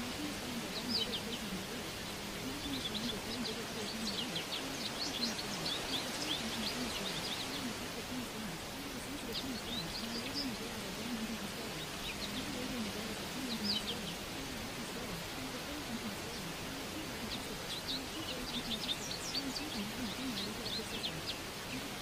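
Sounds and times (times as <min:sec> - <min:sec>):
birds chirping: 0:00.0 - 0:22.0
faint low wavering voice: 0:00.0 - 0:22.0
steady hiss: 0:00.0 - 0:22.0.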